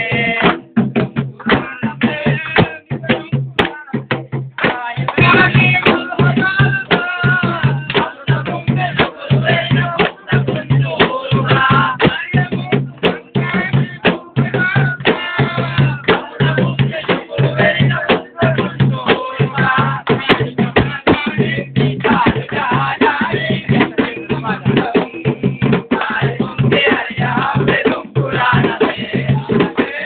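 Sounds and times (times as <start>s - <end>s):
large drums beaten by hand: 0.0s - 30.0s
voices singing: 0.0s - 30.0s.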